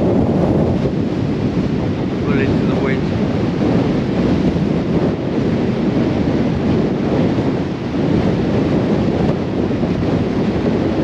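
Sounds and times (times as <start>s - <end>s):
strong wind on microphone: 0.0s - 11.0s.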